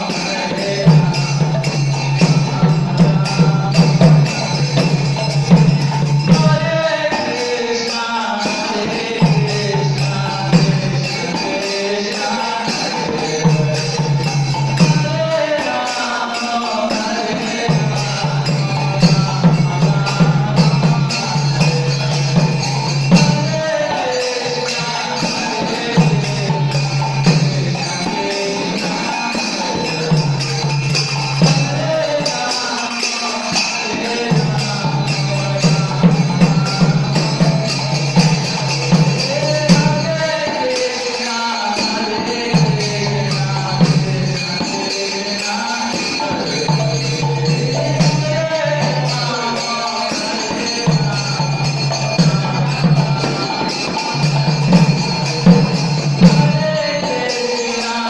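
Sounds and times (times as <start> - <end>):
man singing a chant: 0.0 - 58.0
small hand cymbals jingling: 0.0 - 58.0.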